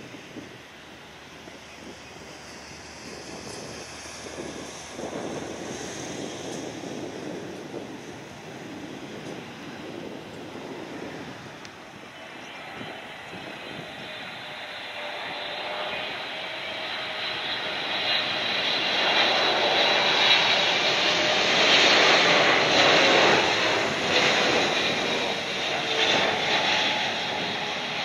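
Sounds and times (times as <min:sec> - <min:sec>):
jet engines rushing and whining: 0:00.0 - 0:28.0.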